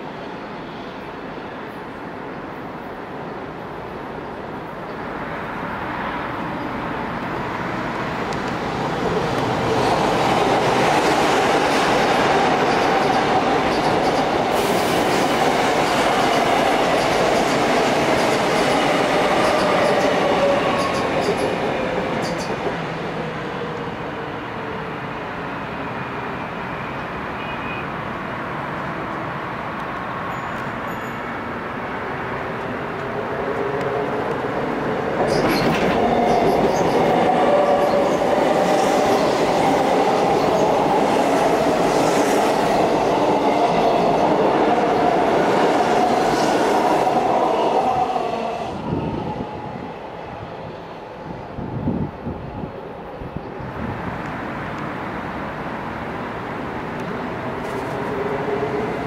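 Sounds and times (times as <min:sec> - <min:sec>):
electric train passing on bridge: 0:00.0 - 0:59.0.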